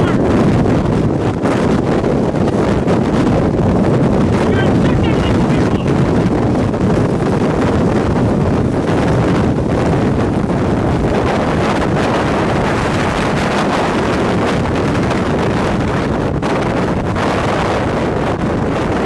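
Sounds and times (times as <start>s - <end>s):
moving vehicle noise: 0.0s - 19.0s
strong wind buffeting microphone: 0.0s - 19.0s.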